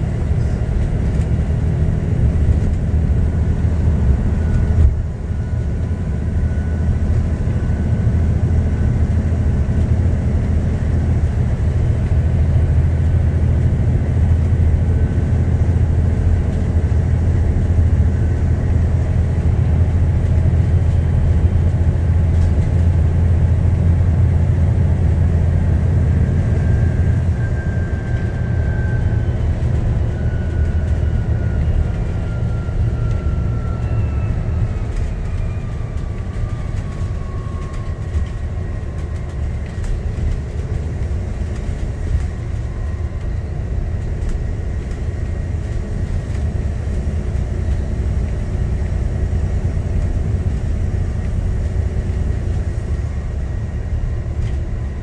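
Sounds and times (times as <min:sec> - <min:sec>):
bus engine and road drone: 0:00.0 - 0:55.0
faint whine: 0:02.0 - 0:55.0.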